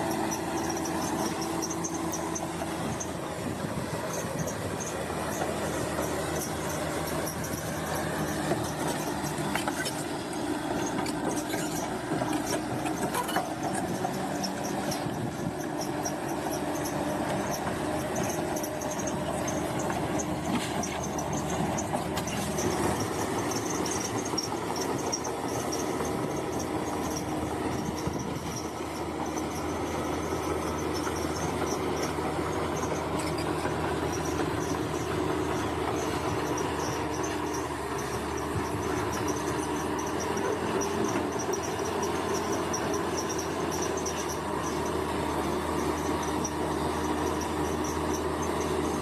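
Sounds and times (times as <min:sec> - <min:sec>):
bulldozer diesel engine running: 0:00.0 - 0:49.0
steel tracks squealing: 0:00.0 - 0:49.0.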